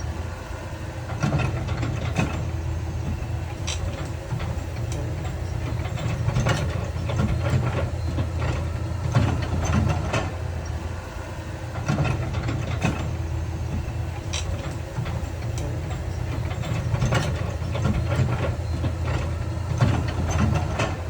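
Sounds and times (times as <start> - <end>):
diesel machinery engine hum: 0.0 - 21.0.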